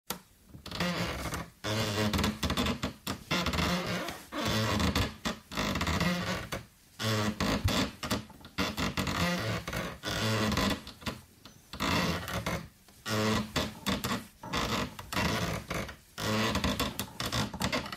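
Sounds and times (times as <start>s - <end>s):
wood creaking: 0.6s - 17.9s.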